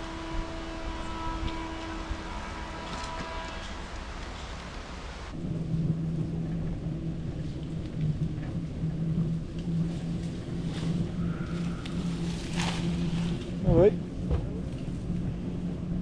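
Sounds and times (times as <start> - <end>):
steady low hum: 0.0 - 16.0
wind rumble on microphone: 0.0 - 16.0.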